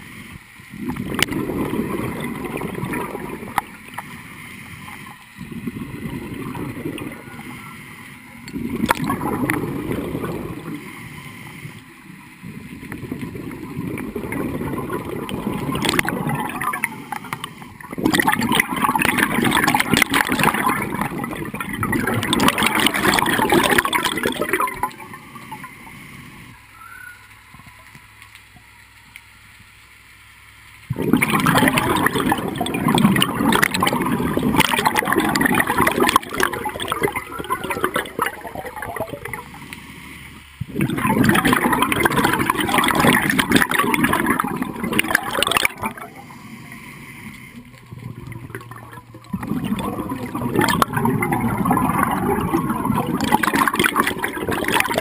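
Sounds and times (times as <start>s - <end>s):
underwater exhaled bubbles gurgling: 0.0s - 28.0s, 30.8s - 55.0s.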